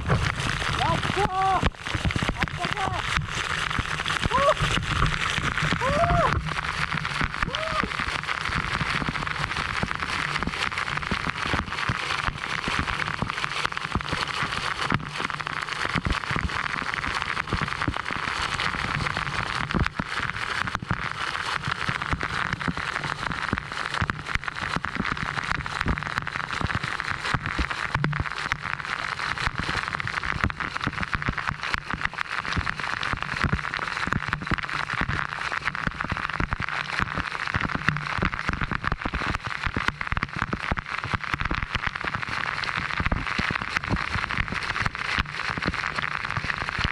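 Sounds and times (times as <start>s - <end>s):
waterfall pouring and splashing: 0.0s - 46.9s.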